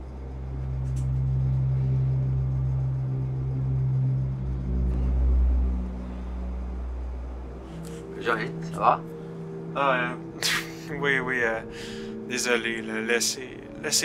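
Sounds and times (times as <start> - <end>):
low rumbling drone: 0.0 - 14.0.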